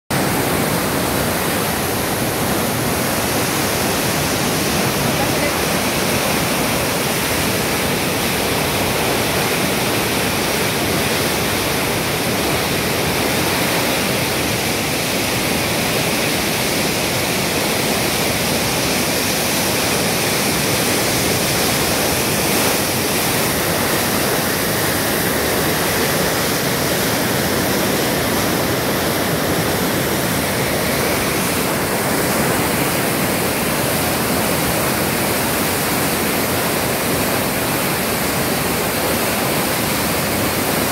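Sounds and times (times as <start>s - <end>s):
river rushing through rapids: 0.1s - 40.9s.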